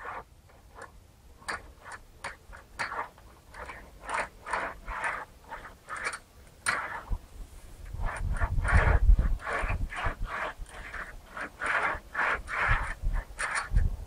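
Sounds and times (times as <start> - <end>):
sheet bender clicking and scraping: 0.0 - 14.0.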